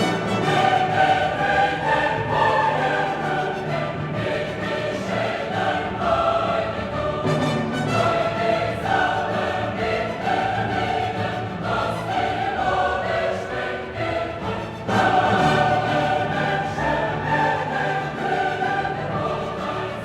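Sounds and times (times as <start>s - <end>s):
choir singing held notes: 0.0s - 20.0s
instrumental accompaniment: 0.0s - 20.0s.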